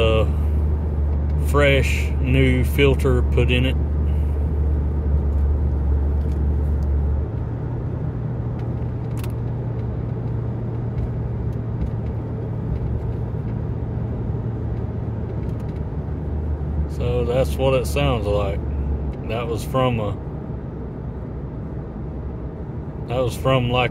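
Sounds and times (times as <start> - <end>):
truck engine drone inside cab: 0.0 - 23.9.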